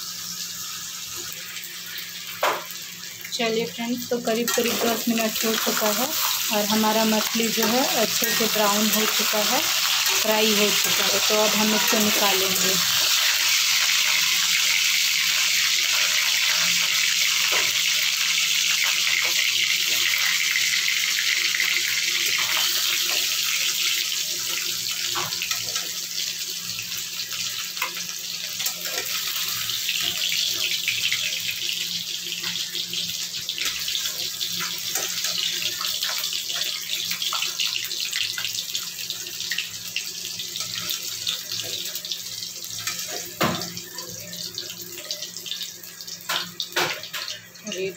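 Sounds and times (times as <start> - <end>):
fish sizzling in hot oil: 0.0 - 47.9.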